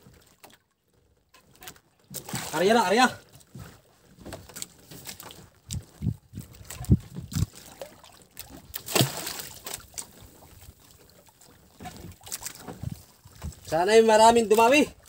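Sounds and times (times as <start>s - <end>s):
water sloshing against hull: 0.0s - 15.0s.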